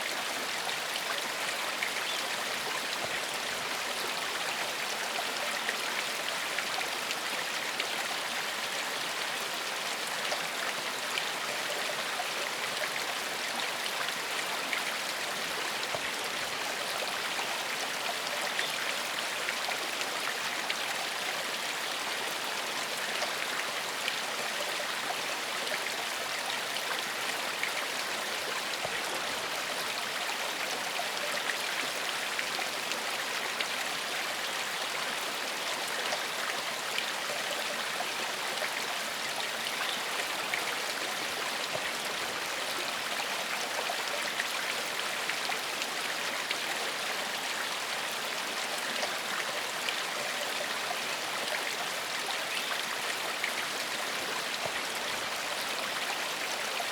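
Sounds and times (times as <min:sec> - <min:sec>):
stream flowing over rocks: 0:00.0 - 0:56.9.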